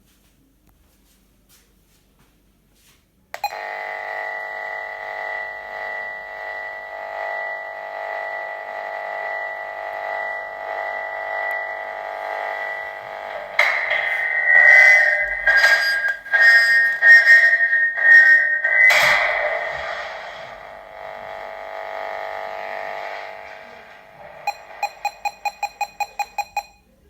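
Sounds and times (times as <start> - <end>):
steady electronic tone: 3.7 - 26.7.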